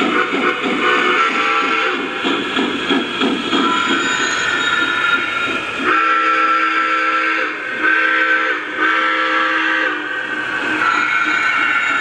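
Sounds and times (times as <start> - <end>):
multi-tone steam whistle blasts: 0.0 - 2.2, 3.6 - 12.0.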